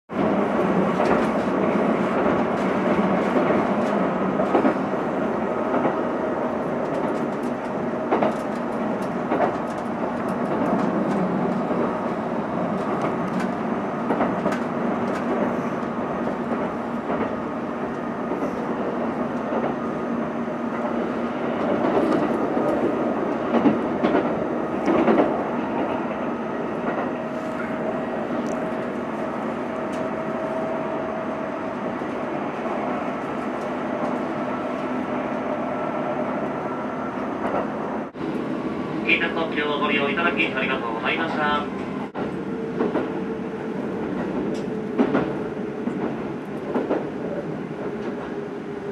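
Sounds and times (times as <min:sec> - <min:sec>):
train wheels rumbling on rails: 0:00.1 - 0:48.9.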